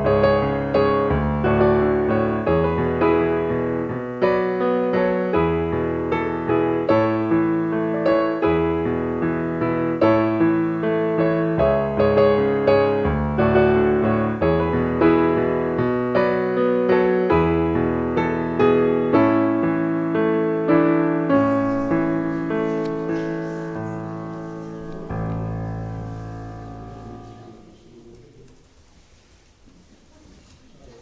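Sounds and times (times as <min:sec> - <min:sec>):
solo piano music: 0:00.0 - 0:28.5.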